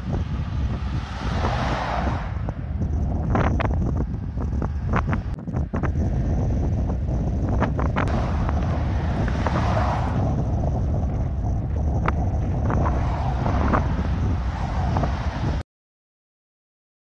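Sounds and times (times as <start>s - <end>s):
wind buffeting microphone: 0.0s - 15.6s.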